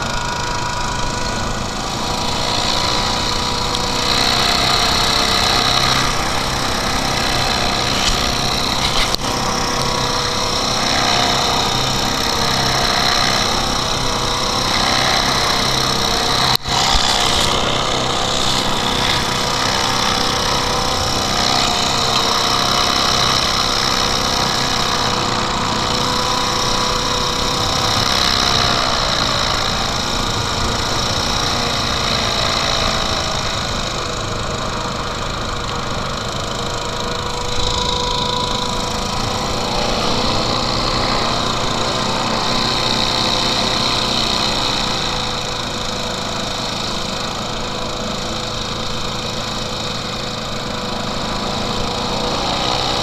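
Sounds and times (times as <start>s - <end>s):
hovercraft engine and propeller: 0.0s - 53.0s.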